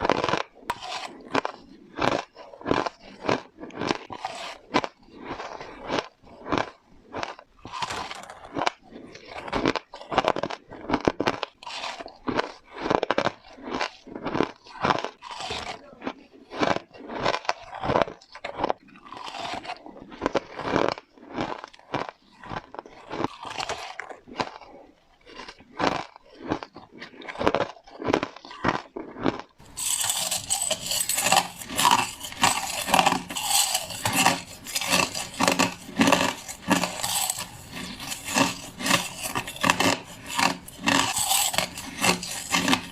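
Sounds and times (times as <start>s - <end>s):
crunching ice between teeth: 0.0s - 42.9s.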